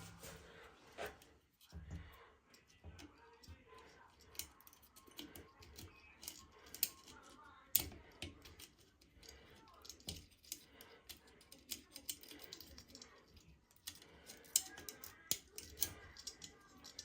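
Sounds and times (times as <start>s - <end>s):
small tools clicking and tapping: 1.6s - 17.0s.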